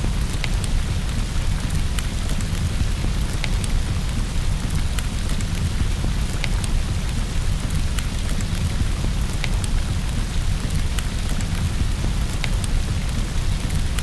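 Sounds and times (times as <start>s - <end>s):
continuous low rumble: 0.0s - 14.0s
rain against a window: 0.0s - 14.0s.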